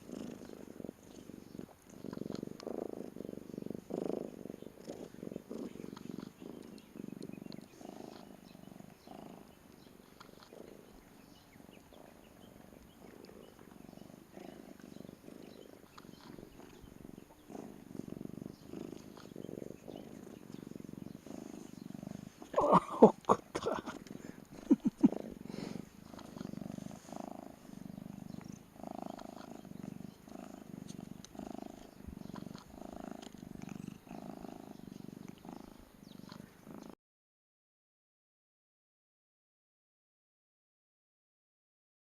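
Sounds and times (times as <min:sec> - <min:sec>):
cat purring: 0:00.0 - 0:37.0.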